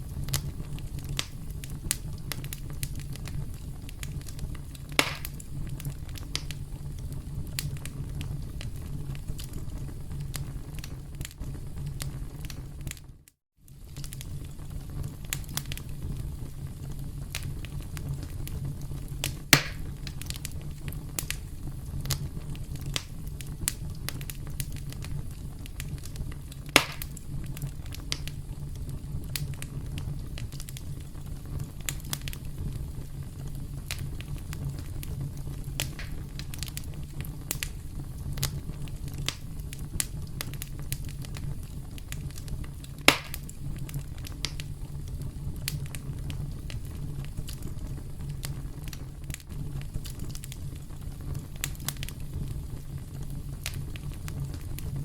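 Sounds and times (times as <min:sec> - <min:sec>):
campfire crackling: 0:00.0 - 0:55.0
loud fire pops: 0:00.0 - 0:55.0.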